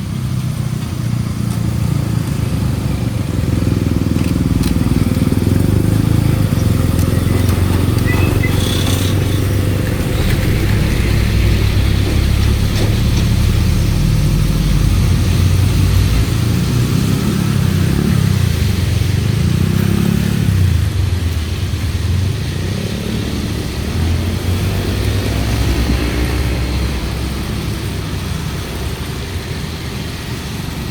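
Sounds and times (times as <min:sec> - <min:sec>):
deep engine rumble: 0:00.0 - 0:30.9.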